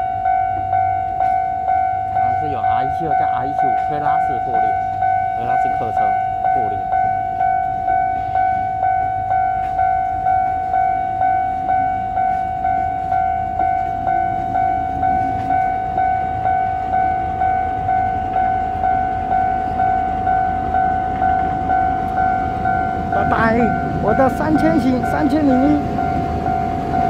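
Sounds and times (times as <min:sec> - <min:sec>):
level crossing bell ringing: 0:00.0 - 0:27.0
train rumbling past: 0:00.0 - 0:27.0.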